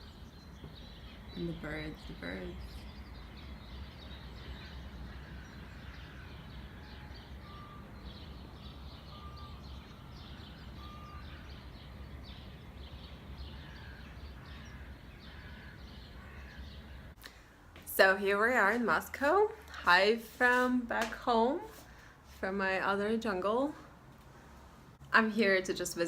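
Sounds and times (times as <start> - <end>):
small birds chirping: 0.0 - 22.8.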